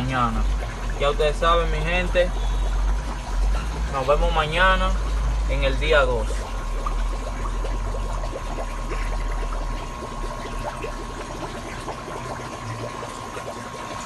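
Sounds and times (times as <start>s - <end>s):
filter low hum: 0.0s - 14.0s
thin steady whine: 0.0s - 14.0s
water trickling and splashing: 0.0s - 14.0s.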